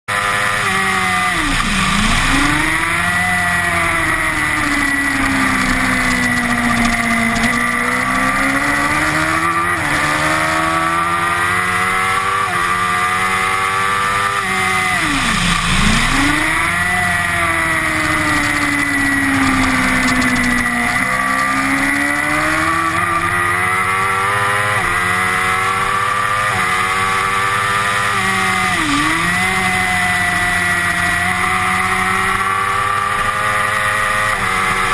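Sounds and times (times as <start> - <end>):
motorcycle engine at racing speed: 0.1 - 34.9.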